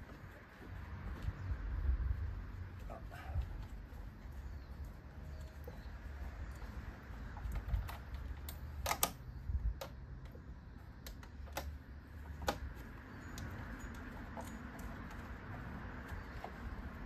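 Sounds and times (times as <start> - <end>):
hands clicking and tapping on engine: 2.5 - 17.0.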